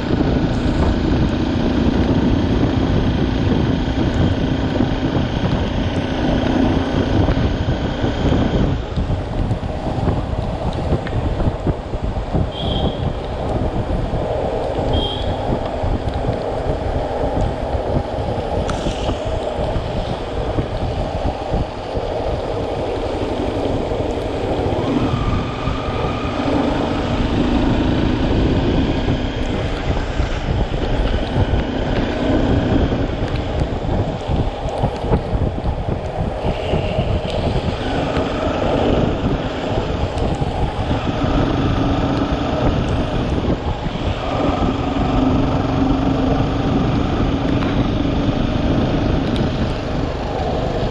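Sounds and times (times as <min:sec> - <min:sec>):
motorcycle engine riding: 0:00.0 - 0:50.9
wind buffeting microphone: 0:00.0 - 0:50.9.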